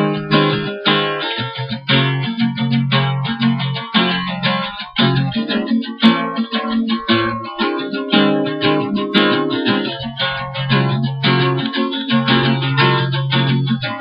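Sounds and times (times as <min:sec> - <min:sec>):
acoustic guitar strummed: 0:00.0 - 0:14.0.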